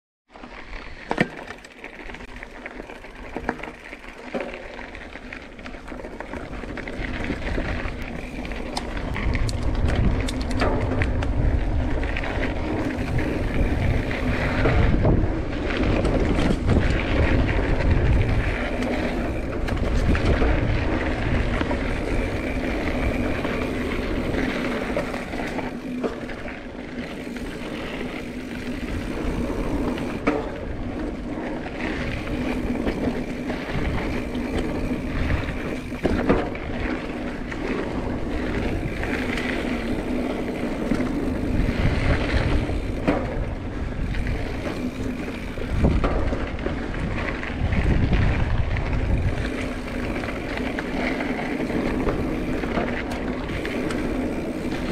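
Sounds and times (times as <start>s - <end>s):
bike rattling over bumps: 0.3s - 54.9s
bike tyre noise: 0.3s - 54.9s
wind rumbling on microphone: 4.4s - 54.9s.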